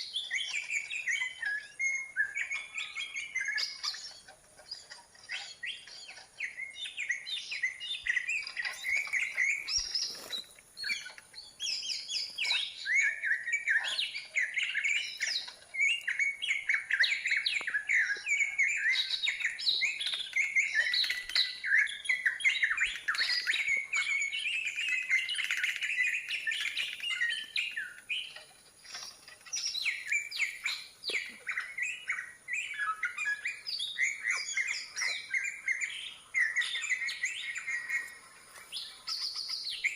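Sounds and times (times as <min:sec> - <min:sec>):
bird song chirps and whistles: 0:00.0 - 0:39.9.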